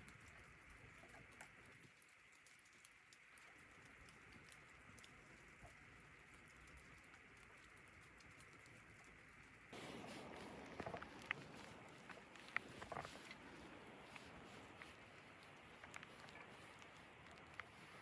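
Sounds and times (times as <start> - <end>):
faint patter of precipitation: 0.0 - 18.0.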